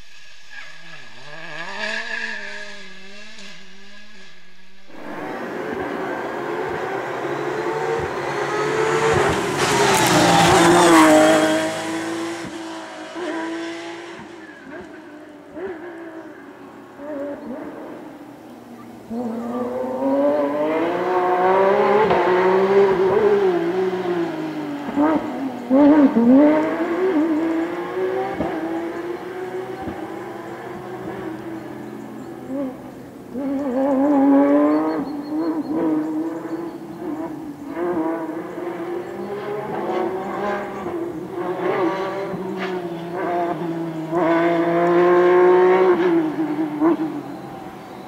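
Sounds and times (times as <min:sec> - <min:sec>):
rally car engine passing: 0:00.0 - 0:48.0.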